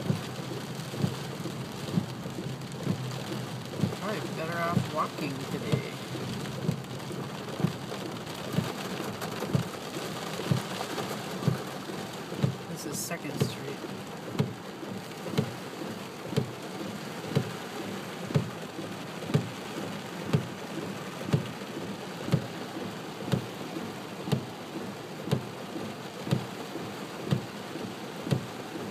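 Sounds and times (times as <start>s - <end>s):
heavy rain on a car: 0.0s - 28.9s.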